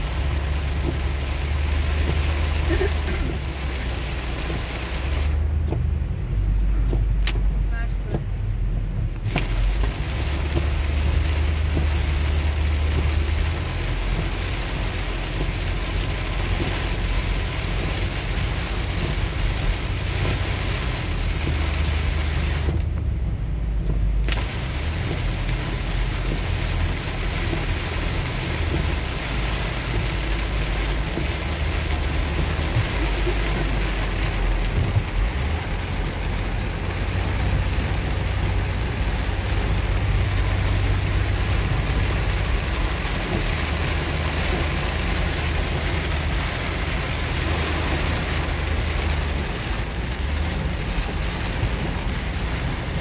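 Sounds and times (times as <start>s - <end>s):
heavy rain on a vehicle roof: 0.0s - 53.0s
road rumble: 0.0s - 53.0s.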